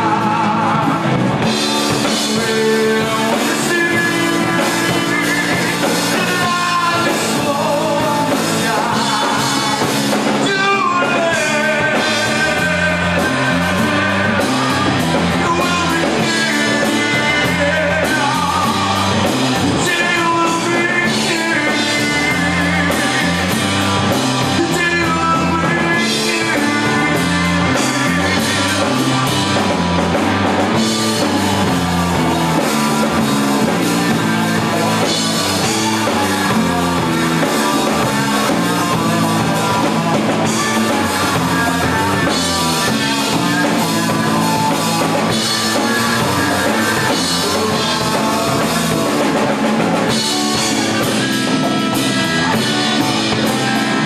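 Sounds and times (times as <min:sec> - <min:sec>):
bass guitar: 0:00.0 - 0:54.0
drum kit: 0:00.0 - 0:54.0
electric lead guitar: 0:00.0 - 0:54.0.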